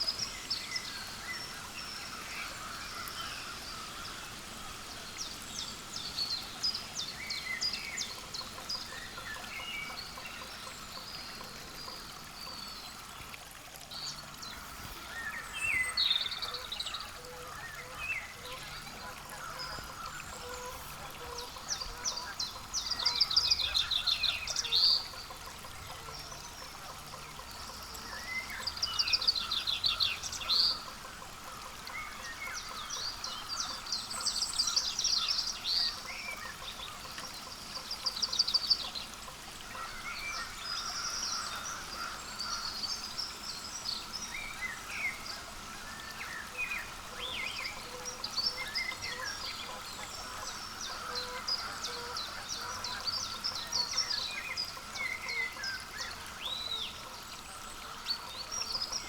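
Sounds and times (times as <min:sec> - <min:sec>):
faint outdoor background noise: 0:00.0 - 0:59.0.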